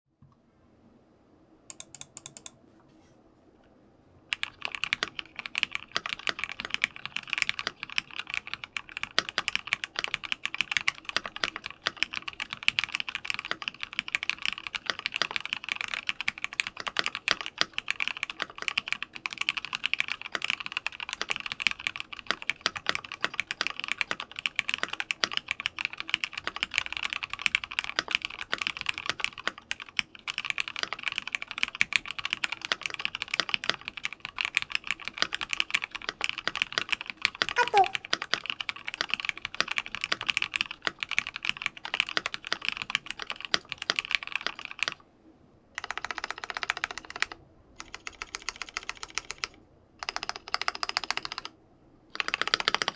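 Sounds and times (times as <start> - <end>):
mechanical keyboard typing: 1.7 - 2.6, 4.3 - 45.0, 45.8 - 52.9.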